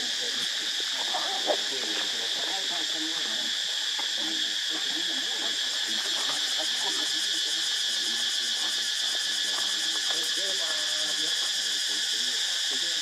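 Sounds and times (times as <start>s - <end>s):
forest insects droning: 0.0s - 13.0s.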